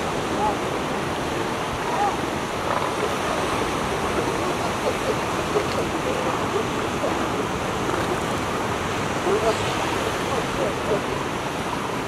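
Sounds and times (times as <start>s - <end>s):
ocean surf rushing: 0.0s - 12.0s.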